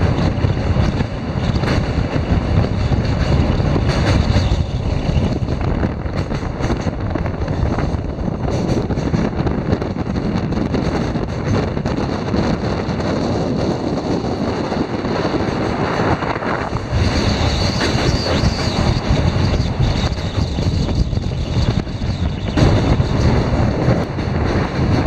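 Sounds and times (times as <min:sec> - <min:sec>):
train wheels rumbling on rails: 0:00.0 - 0:25.0
wind buffeting microphone: 0:00.0 - 0:25.0.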